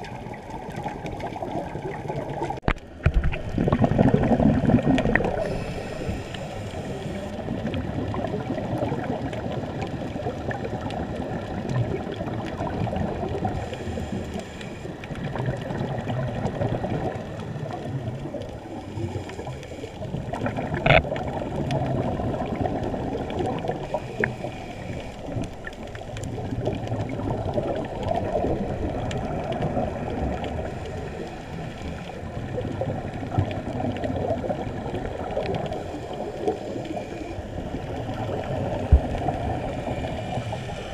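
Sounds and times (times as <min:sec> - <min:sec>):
muffled underwater gurgling: 0:00.0 - 0:40.9
regulator bubbles: 0:00.0 - 0:40.9.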